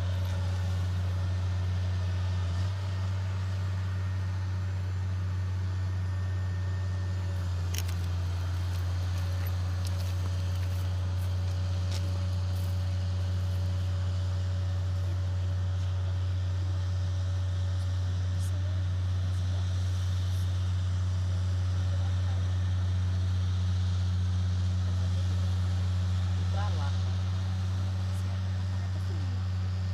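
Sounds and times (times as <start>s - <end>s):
faint thin whine: 0.0s - 26.0s
engine droning: 0.0s - 29.9s.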